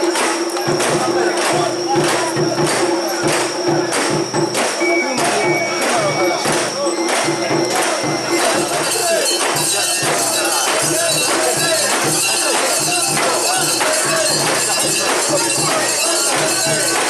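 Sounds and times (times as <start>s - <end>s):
crowd chanting in rhythm: 0.0s - 17.0s.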